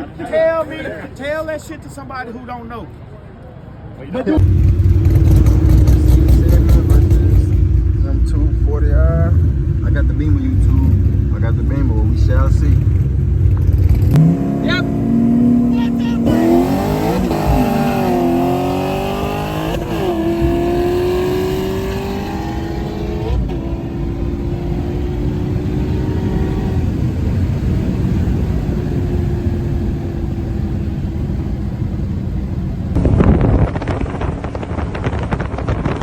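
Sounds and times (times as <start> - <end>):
wind and road noise rumble: 0.0 - 36.0
car engine running under load: 4.4 - 36.0.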